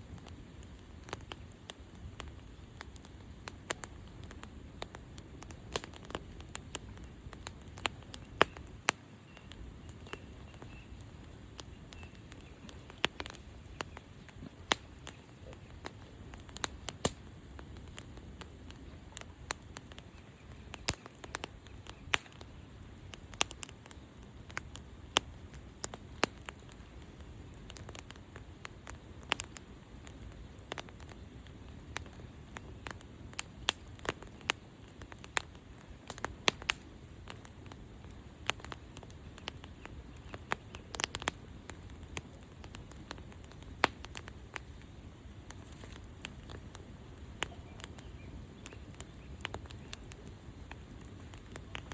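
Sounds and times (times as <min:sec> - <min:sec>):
low rush of burning: 0:00.0 - 0:51.9
wood fire crackling: 0:00.0 - 0:51.9.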